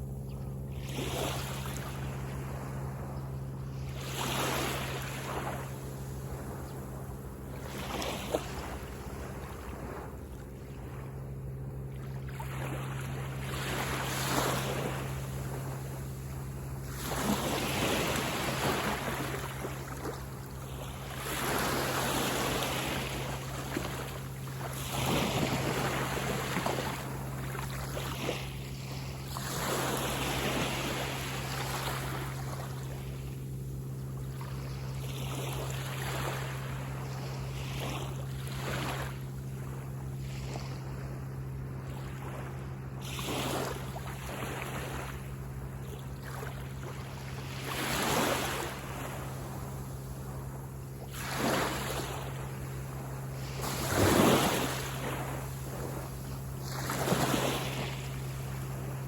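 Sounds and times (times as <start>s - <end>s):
ocean waves breaking on beach: 0.0s - 59.0s
steady low hum: 0.0s - 59.0s.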